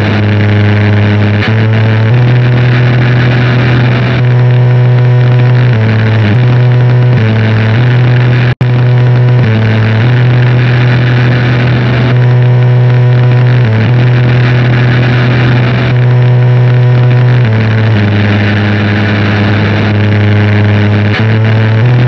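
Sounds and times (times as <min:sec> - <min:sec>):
distorted static noise: 0:00.0 - 0:22.0
low drone: 0:00.0 - 0:22.0.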